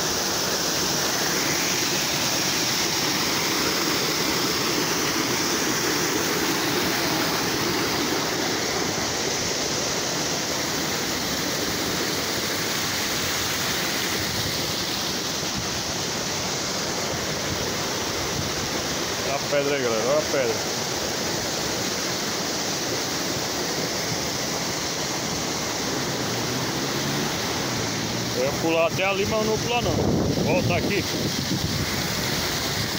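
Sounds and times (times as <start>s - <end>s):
waterfall pouring over rocks: 0.0s - 32.9s.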